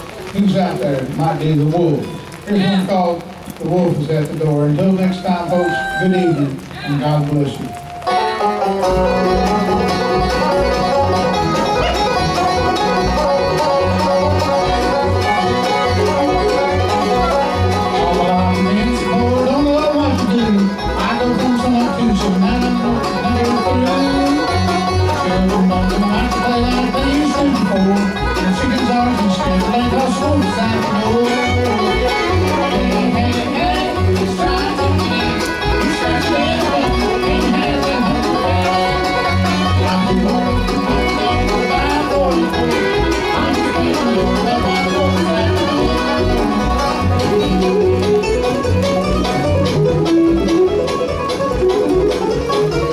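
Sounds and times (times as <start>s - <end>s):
bluegrass band playing: 0.0s - 52.9s
upright bass beat: 8.1s - 52.9s.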